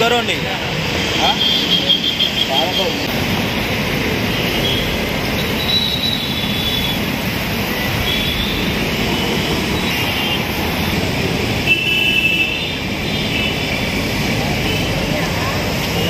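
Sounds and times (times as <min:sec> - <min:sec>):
roadside traffic noise: 0:00.0 - 0:16.0.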